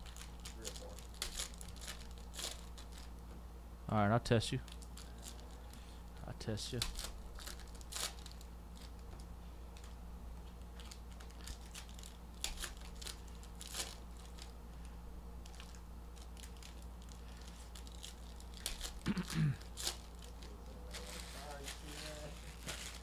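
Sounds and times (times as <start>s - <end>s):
packaging crinkling and ripping: 0.0s - 3.2s, 4.6s - 5.7s, 6.7s - 9.1s, 9.8s - 14.6s, 15.4s - 23.0s
low electrical hum: 0.0s - 23.0s.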